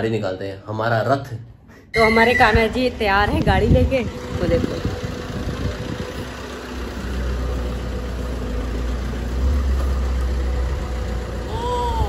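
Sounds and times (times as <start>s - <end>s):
car engine low rumble: 2.1s - 12.0s.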